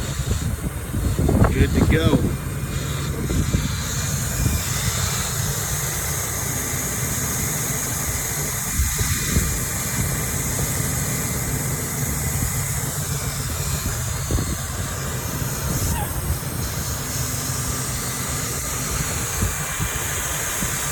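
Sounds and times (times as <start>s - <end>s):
hot-air blower hissing: 0.0s - 20.9s.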